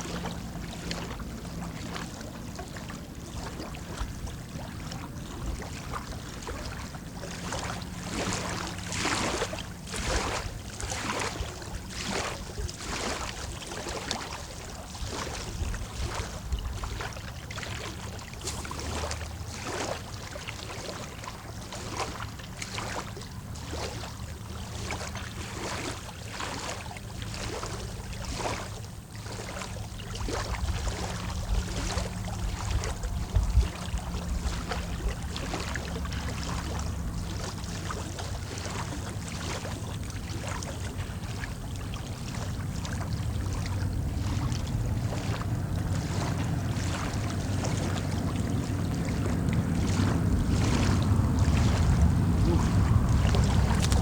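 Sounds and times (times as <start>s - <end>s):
small waves lapping on shore: 0.0s - 54.0s.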